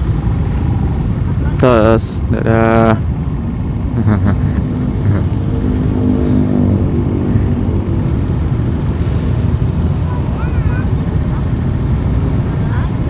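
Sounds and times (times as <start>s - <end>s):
faint steady drone: 0.0s - 13.0s
motorbike engine and wind rumble: 0.0s - 13.0s.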